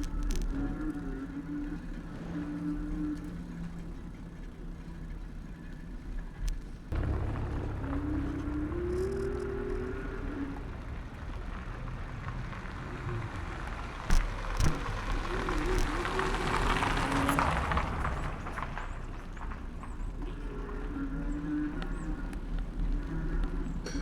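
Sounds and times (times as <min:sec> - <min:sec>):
bicycle ride rumble: 0:00.0 - 0:24.0
traffic noise: 0:00.0 - 0:24.0.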